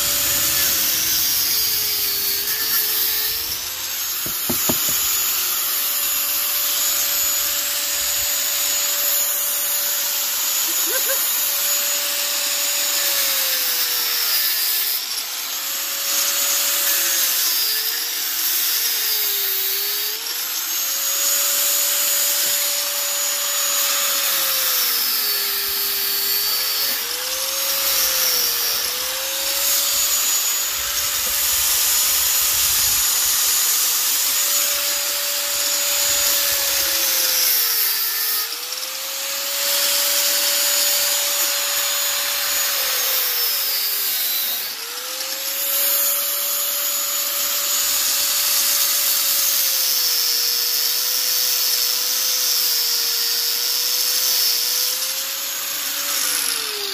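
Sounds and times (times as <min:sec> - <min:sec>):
angle grinder cutting metal: 0:00.0 - 0:56.9.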